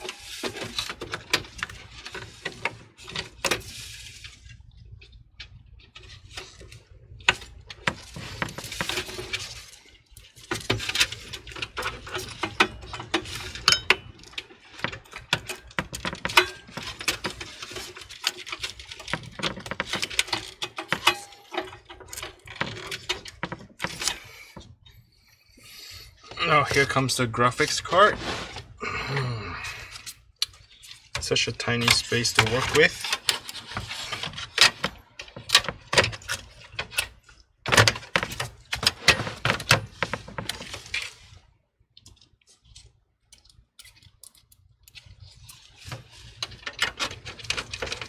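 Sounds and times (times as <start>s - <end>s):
cables rustling: 0.0s - 48.0s.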